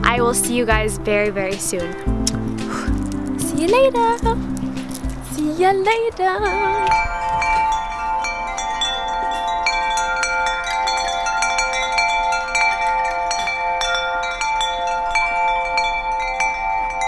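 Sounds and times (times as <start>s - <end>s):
wind chimes ringing: 2.6s - 17.0s.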